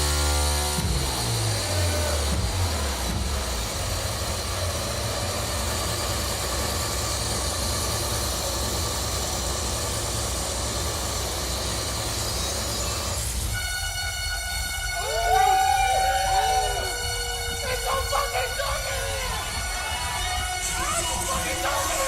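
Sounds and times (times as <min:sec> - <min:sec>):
harsh electronic noise music: 0:00.0 - 0:22.0.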